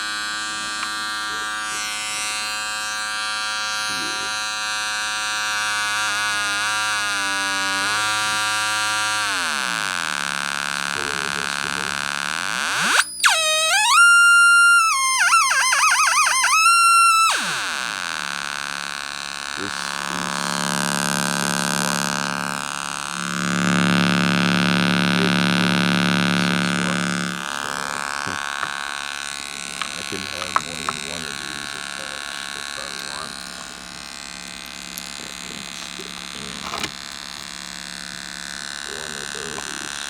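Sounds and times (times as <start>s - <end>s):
electronic alarm siren wailing: 0.0s - 33.5s.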